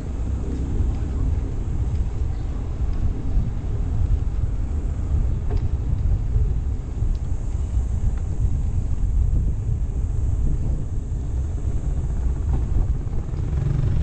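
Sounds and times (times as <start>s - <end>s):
bike tyres rolling on asphalt: 0.0s - 14.0s
wind buffeting microphone: 0.0s - 14.0s.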